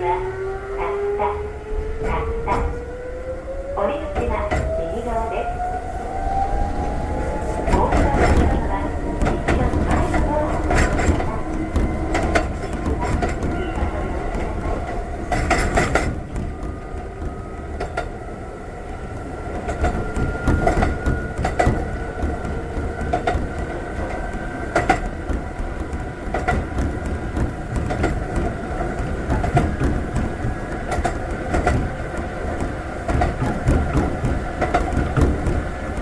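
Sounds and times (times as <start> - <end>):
electric train rumbling: 0.0 - 36.0
rail-joint clacks: 1.8 - 2.8, 4.0 - 5.4, 6.8 - 36.0.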